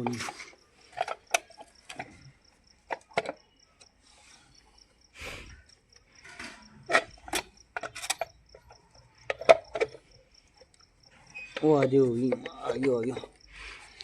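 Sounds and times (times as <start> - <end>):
hand tools clicking and knocking: 0.0 - 4.0, 5.7 - 13.4
cricket chirping: 0.0 - 14.0.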